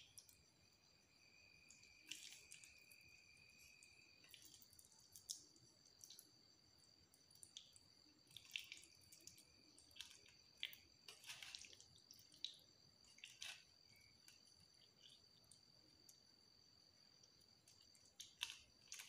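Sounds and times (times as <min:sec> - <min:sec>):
wet squelches of mashing food: 0:01.3 - 0:19.0.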